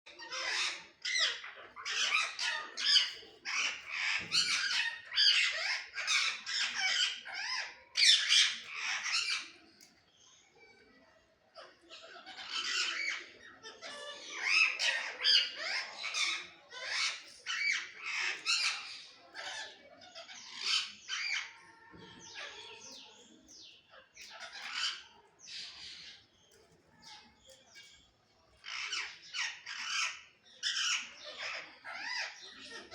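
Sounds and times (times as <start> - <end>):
parrots squawking and screeching: 0.1 - 9.8, 11.5 - 26.2, 28.6 - 32.9.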